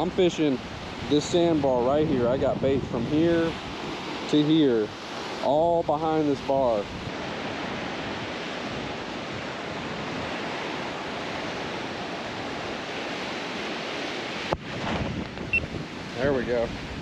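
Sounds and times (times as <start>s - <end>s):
surf washing up a beach: 0.0s - 17.0s.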